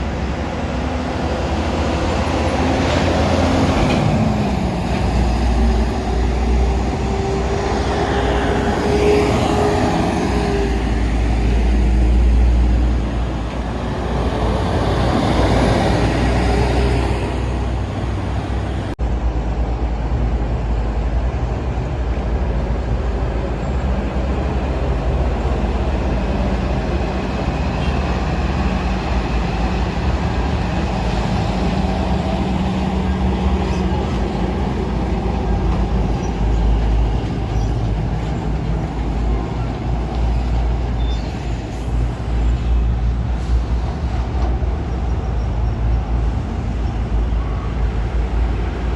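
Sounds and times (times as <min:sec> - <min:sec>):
road traffic passing: 0:00.0 - 0:48.9.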